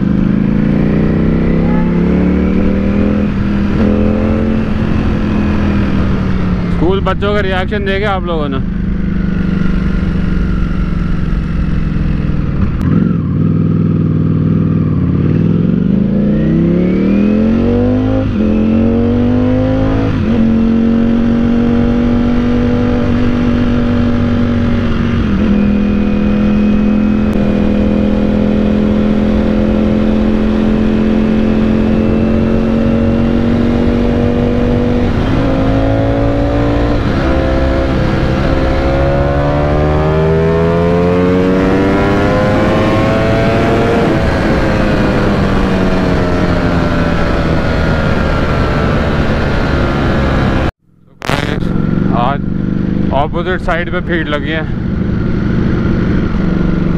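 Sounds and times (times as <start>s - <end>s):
wind noise: 0.0s - 13.2s, 14.8s - 53.3s
motorcycle engine accelerating: 0.0s - 56.9s.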